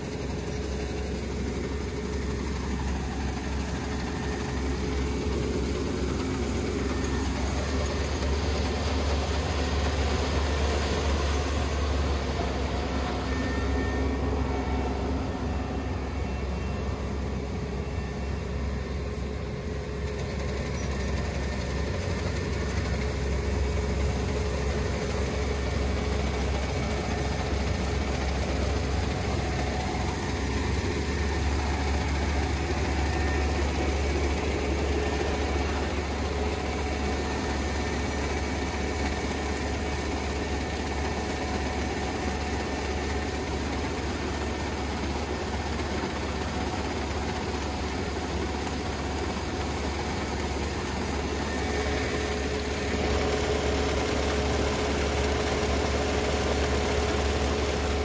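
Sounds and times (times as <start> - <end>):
combine harvester engine drone: 0.0 - 58.0
machinery hum: 0.0 - 58.0.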